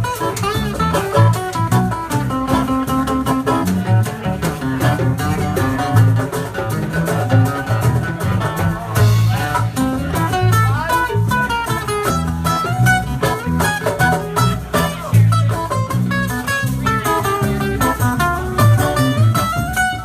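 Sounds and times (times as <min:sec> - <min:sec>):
live band playing: 0:00.0 - 0:20.0
melodic lead with bending notes: 0:00.0 - 0:20.0.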